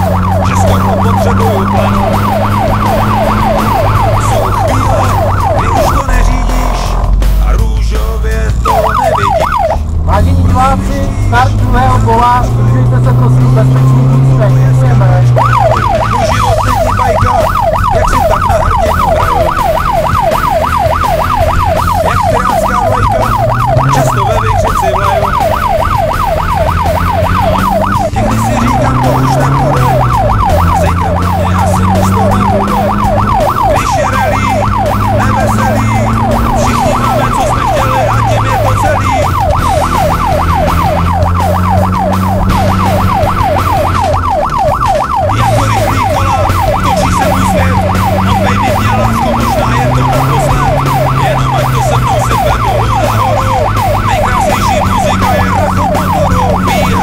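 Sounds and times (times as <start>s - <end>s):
siren wailing in fast yelp: 0.0s - 7.1s, 8.5s - 57.0s
car engine revving: 0.0s - 57.0s.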